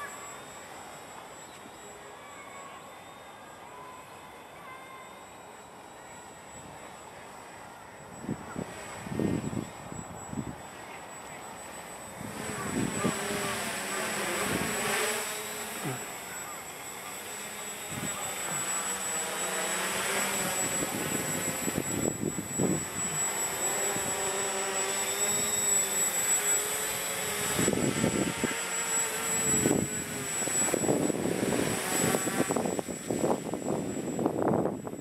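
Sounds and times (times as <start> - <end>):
quadcopter propellers buzzing: 0.0 - 35.0.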